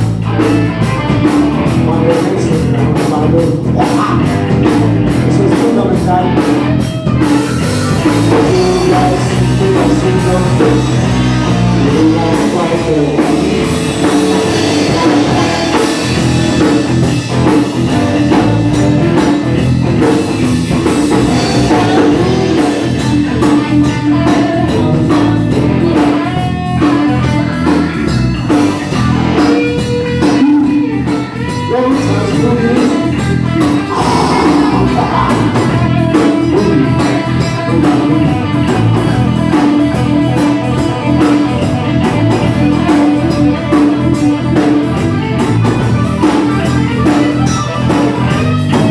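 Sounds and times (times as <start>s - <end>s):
drum kit beat: 0.0s - 48.9s
electric guitar: 0.0s - 48.9s.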